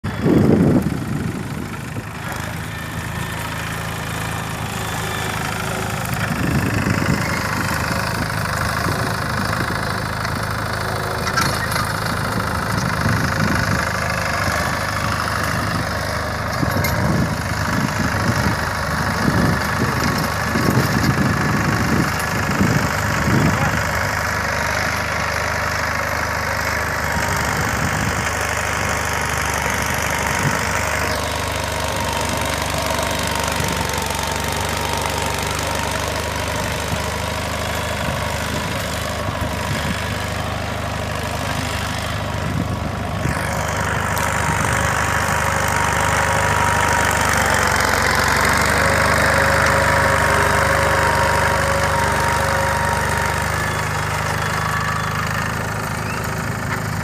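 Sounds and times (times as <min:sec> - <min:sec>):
small diesel engine running: 0:00.0 - 0:57.0.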